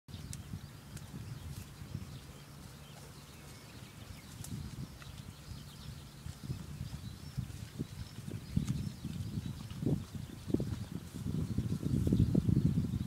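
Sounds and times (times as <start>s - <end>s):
bird chirping: 0.1s - 13.0s
low rumble with thumps: 0.1s - 13.0s.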